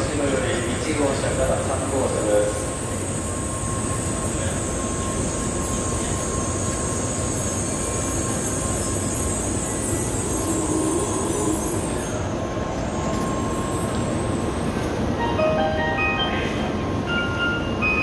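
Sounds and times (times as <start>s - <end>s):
train rumble and hiss: 0.0s - 18.0s.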